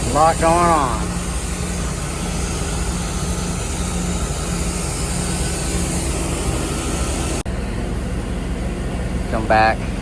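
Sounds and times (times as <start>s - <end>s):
machinery drone with low hum: 0.0s - 10.0s.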